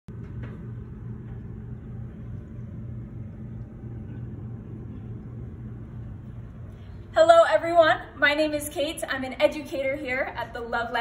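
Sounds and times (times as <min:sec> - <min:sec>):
machinery humming and rumbling: 0:00.1 - 0:11.0.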